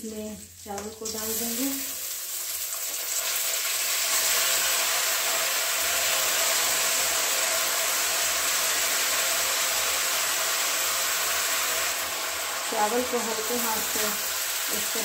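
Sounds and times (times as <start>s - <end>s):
rice sizzling in hot fat: 0.0s - 15.0s.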